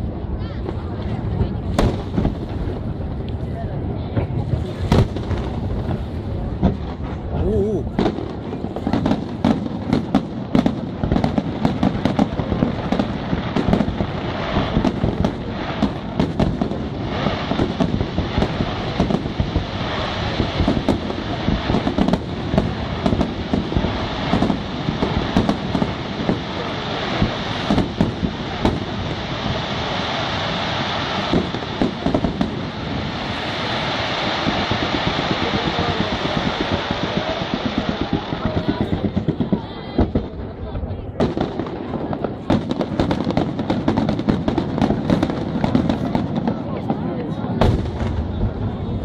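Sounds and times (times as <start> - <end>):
fireworks crackling and hissing: 0.0 - 49.0.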